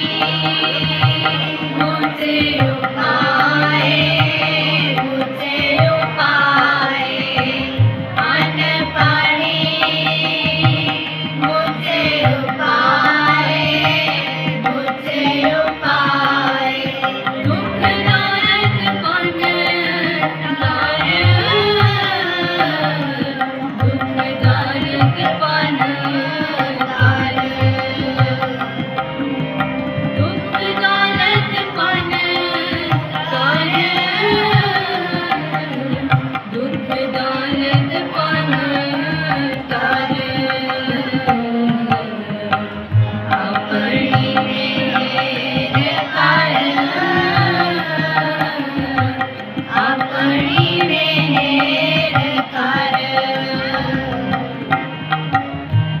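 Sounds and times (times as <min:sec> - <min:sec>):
group of voices singing: 0:00.0 - 0:29.0, 0:29.6 - 0:54.8
harmonium melody: 0:00.0 - 0:56.0
tabla strokes: 0:00.0 - 0:56.0.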